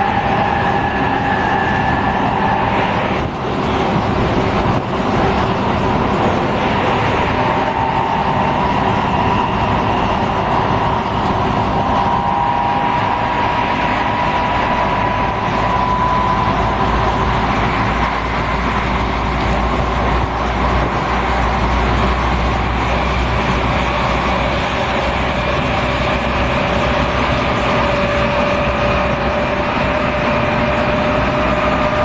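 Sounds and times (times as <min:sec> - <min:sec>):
deep low rumble: 0:00.0 - 0:32.0
electric train rumble and rush: 0:00.0 - 0:32.0.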